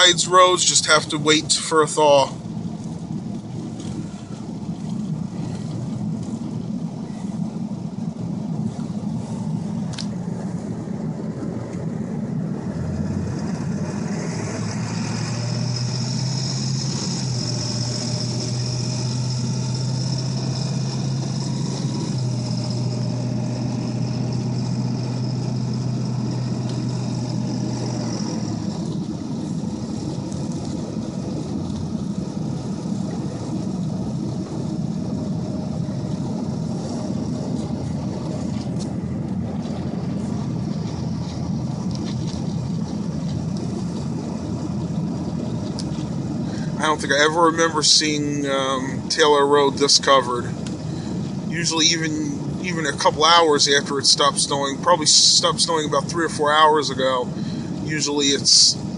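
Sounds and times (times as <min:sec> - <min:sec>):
pickup engine hum: 0:00.0 - 0:58.9
steady whine: 0:00.0 - 0:58.9.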